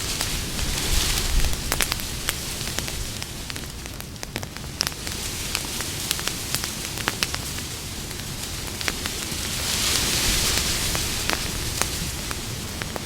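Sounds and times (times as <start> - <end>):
campfire burning with crackles: 0.0 - 13.0.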